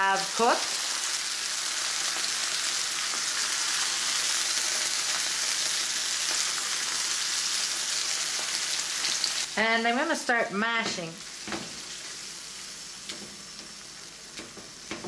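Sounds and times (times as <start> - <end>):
beans sizzling in a skillet: 0.0 - 15.0.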